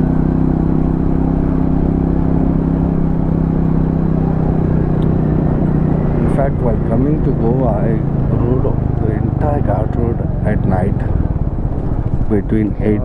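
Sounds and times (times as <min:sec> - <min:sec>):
motorcycle engine running: 0:00.0 - 0:13.0
road and wind rumble: 0:00.0 - 0:13.0.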